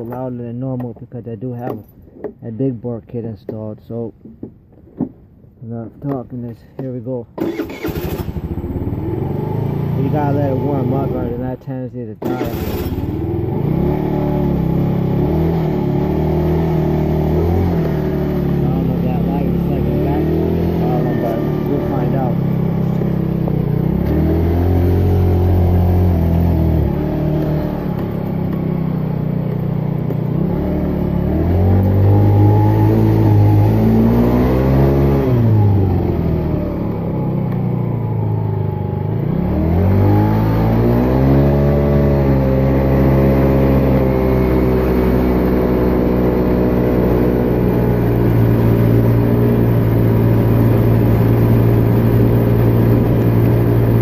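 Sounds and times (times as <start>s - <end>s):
moped engine revving: 7.4s - 11.6s, 12.2s - 54.0s.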